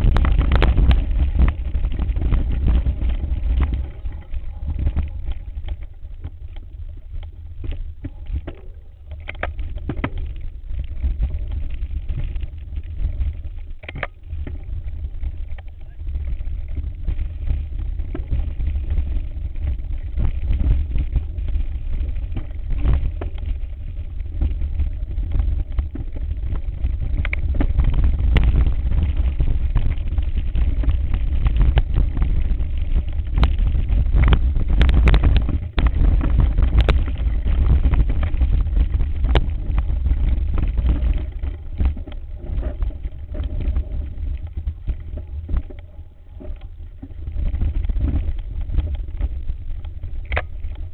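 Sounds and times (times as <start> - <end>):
bike rattling over stones: 0.0 - 50.9
wind rumbling on microphone: 0.0 - 50.9.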